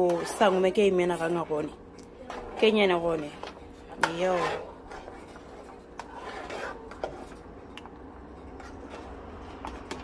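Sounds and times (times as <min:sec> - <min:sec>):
spoon stirring thick soup: 0:00.0 - 0:10.0.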